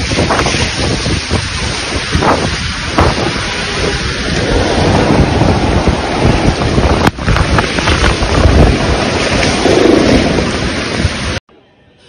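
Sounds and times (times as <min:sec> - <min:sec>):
floodwater rushing torrent: 0:00.0 - 0:11.4
wind buffeting microphone: 0:00.0 - 0:11.4.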